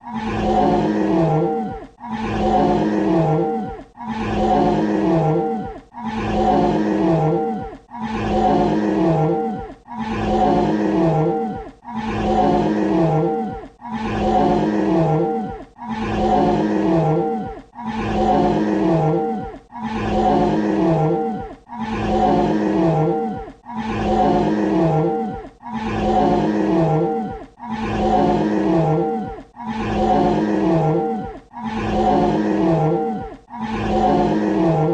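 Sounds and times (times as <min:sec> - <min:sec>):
dinosaur roar: 0:00.0 - 0:34.9.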